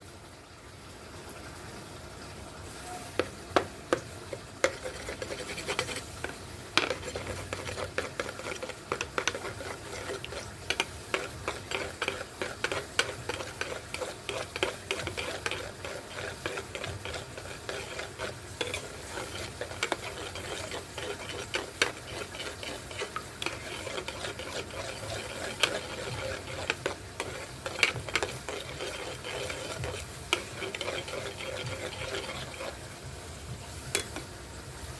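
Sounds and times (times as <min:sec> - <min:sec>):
food sizzling in oil: 0:02.6 - 0:34.9
utensil scraping in a pan: 0:02.7 - 0:34.4.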